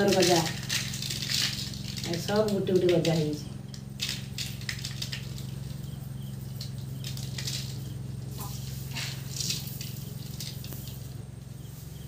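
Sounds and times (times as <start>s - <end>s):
grainy rustling of rice seed: 0.0s - 12.0s
low hum: 0.0s - 12.0s.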